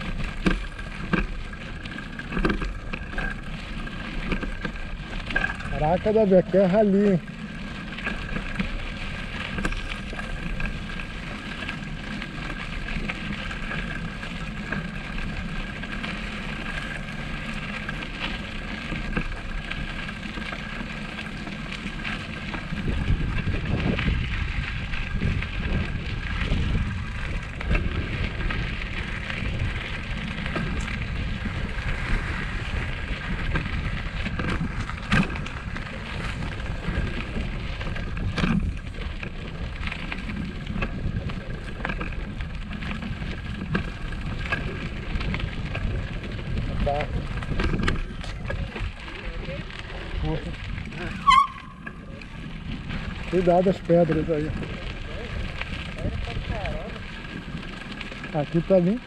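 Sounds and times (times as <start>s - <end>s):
bicycle tyres crunching on dirt: 0.0s - 59.0s.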